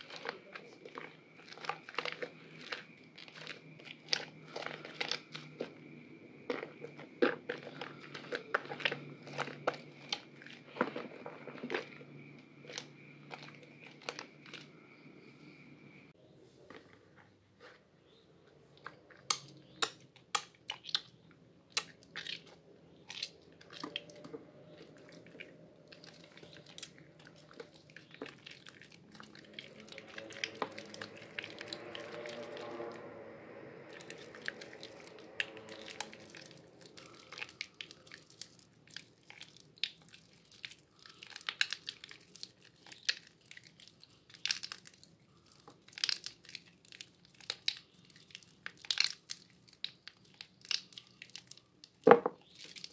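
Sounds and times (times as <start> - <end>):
wet soap crunching in hands: 0.0 - 14.8, 18.7 - 33.1, 33.8 - 52.9.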